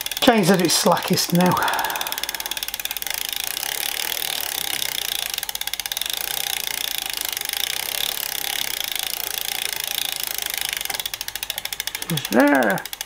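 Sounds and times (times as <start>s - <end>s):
bicycle freewheel clicking: 0.0s - 13.0s.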